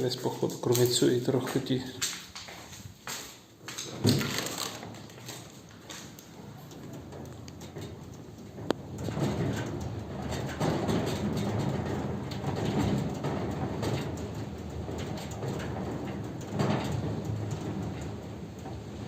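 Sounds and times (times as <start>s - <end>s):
wind gusting through window gaps: 0.0s - 19.0s.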